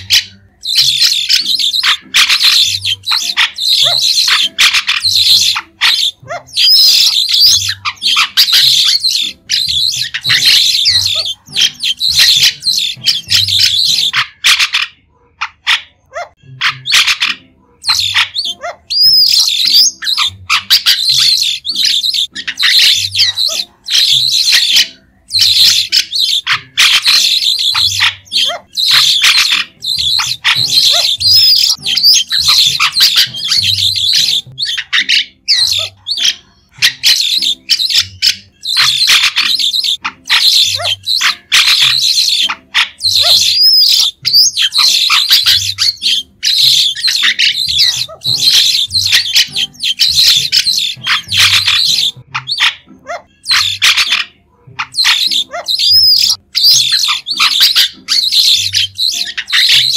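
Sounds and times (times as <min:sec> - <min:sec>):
starlings shrill chattering calls: 0:00.0 - 0:15.0, 0:16.6 - 0:59.9.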